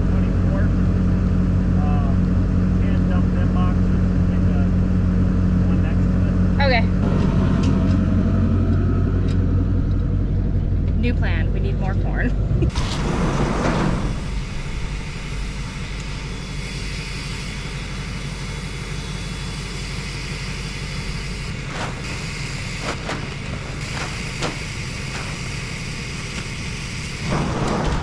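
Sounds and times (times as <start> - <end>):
vehicle engine and road drone: 0.0 - 28.0.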